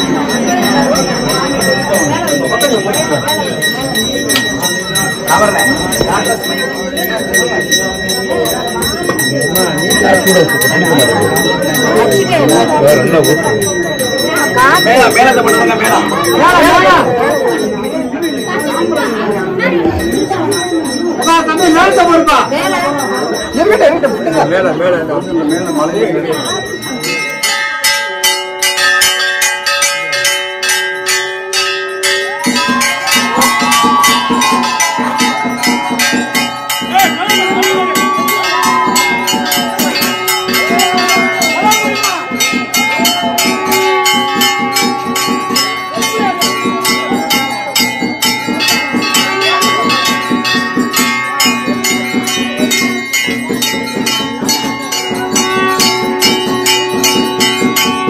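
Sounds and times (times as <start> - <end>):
wavering melodic line: 0.0 - 27.6, 30.9 - 58.0
temple bells rung rapidly: 0.0 - 58.0.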